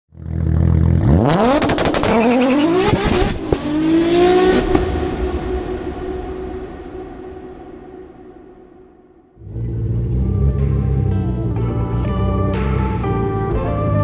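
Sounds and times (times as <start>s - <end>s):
car engine revving: 0.2s - 7.3s, 9.4s - 14.0s.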